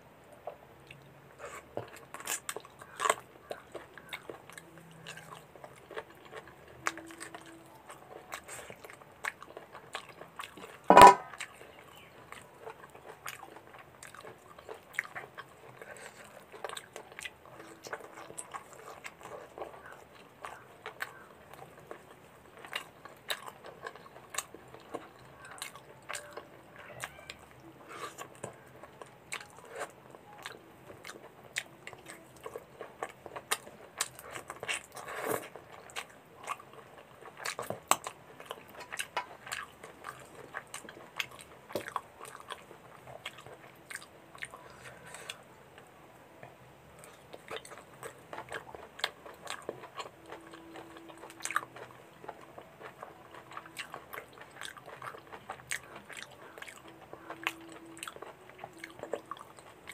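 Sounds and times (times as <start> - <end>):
person chewing meat: 0.4 - 59.9.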